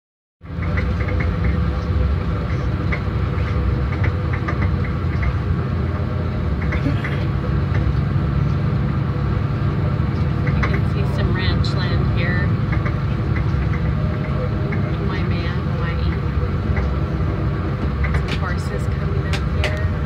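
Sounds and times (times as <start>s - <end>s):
vehicle engine and road hum: 0.4s - 20.0s.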